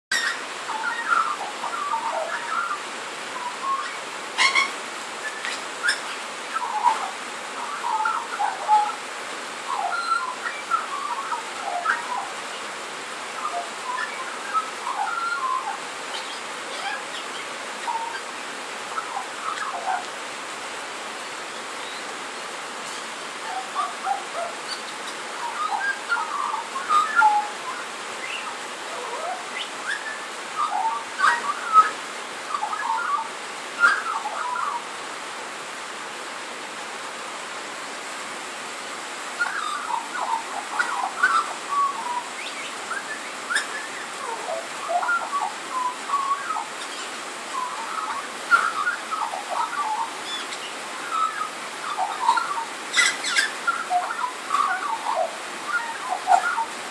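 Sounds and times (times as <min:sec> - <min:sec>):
rain on a tin roof: 0:00.1 - 0:56.9.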